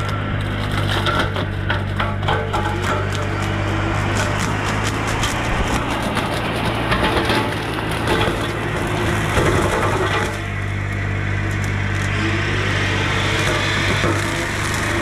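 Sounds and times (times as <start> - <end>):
brush cutter shredding tree: 0.0 - 15.0
diesel engine running: 0.0 - 15.0
wood crackling and splintering: 0.0 - 15.0.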